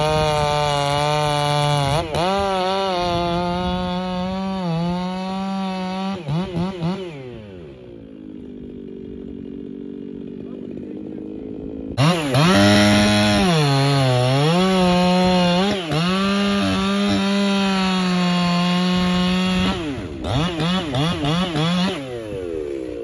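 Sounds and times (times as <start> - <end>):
chainsaw cutting a log: 0.0 - 23.0.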